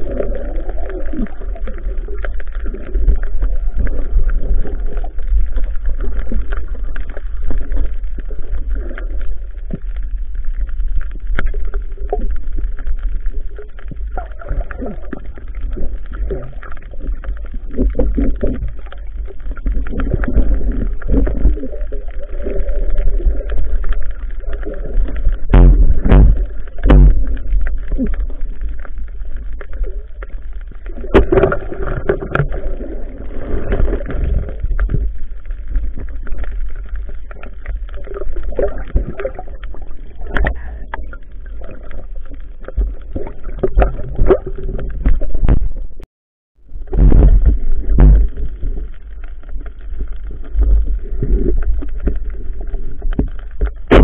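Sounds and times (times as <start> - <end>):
deep underwater rumble: 0.0 - 54.0.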